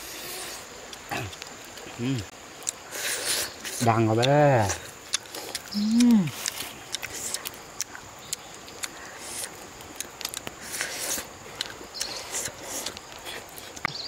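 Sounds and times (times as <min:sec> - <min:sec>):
chewing and lip-smacking: 0:02.6 - 0:14.0.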